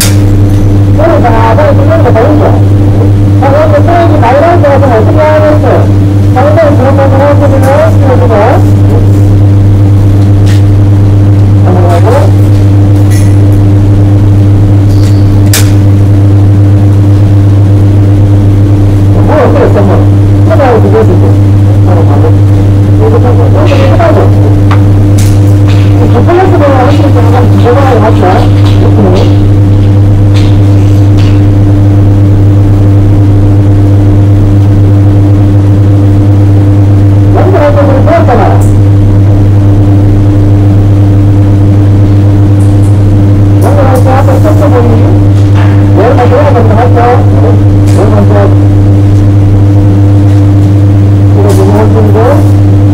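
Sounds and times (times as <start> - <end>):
steady higher tones: 0.0 - 52.9
welder electrical hum: 0.0 - 52.9.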